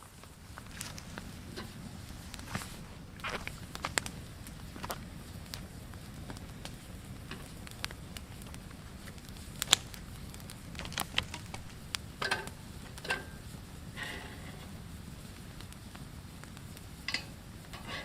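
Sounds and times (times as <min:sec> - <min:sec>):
steady low rumble: 0:00.0 - 0:17.8
sharp clicks and crackles: 0:00.0 - 0:18.0.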